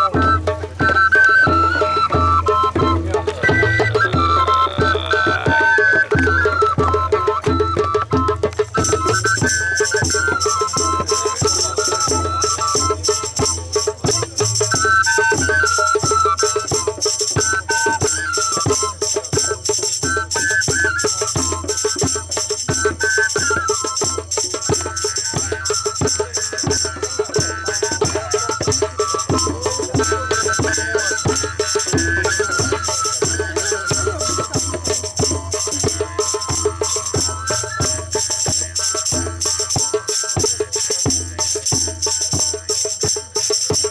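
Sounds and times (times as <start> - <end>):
folk music melody: 0.0 - 39.9
tambourine jingles: 8.5 - 43.9.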